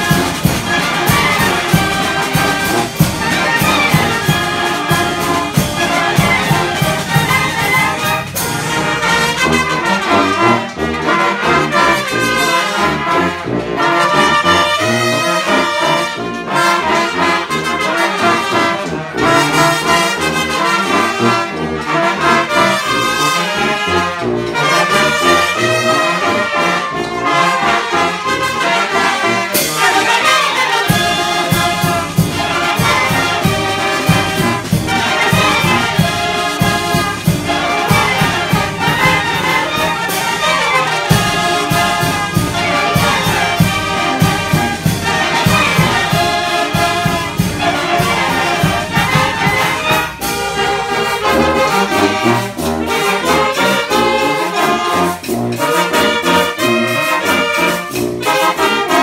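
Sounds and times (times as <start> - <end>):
wind band playing: 0.0 - 59.0.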